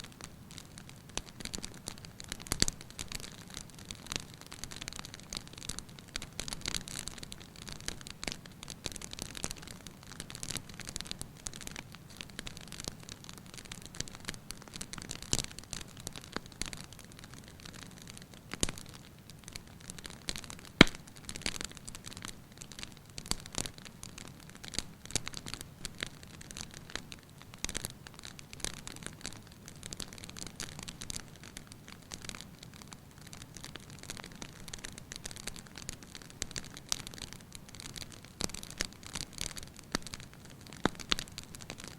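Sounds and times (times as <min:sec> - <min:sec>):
fire crackling in fireplace: 0:00.0 - 0:41.9
fire popping: 0:00.1 - 0:41.9.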